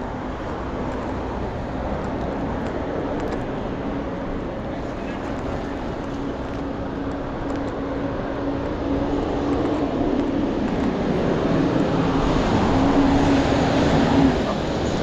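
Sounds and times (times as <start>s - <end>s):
traffic noise: 0.0s - 15.0s
vehicle engine hum: 0.0s - 15.0s.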